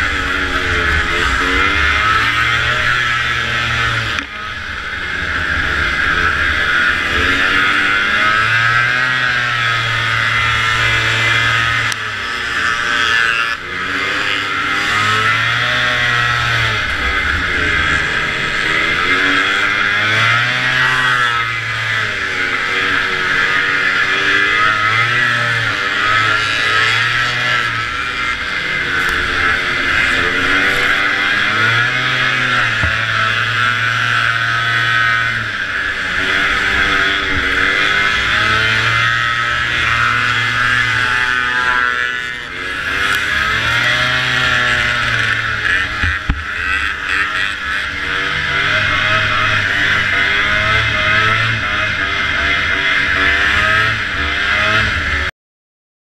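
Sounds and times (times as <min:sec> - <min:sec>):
snowmobile engine revving: 0:00.0 - 0:55.3.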